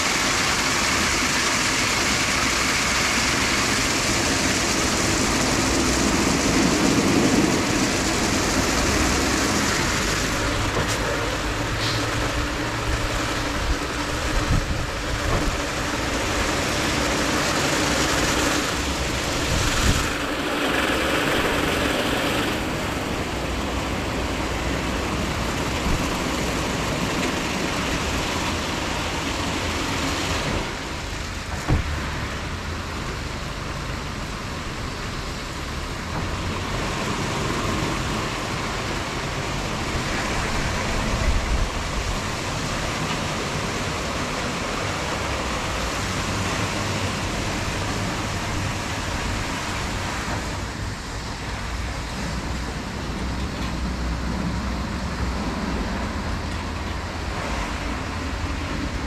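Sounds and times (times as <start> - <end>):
car wash brushes and water spray: 0.0 - 59.0.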